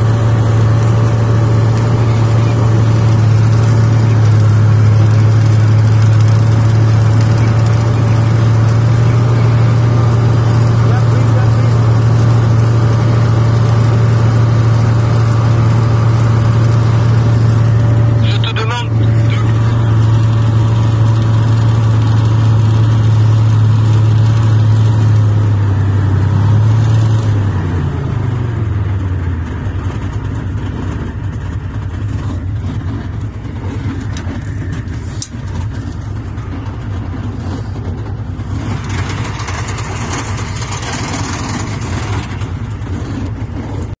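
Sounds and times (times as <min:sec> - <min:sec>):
tank diesel engine running: 0:00.0 - 0:44.0.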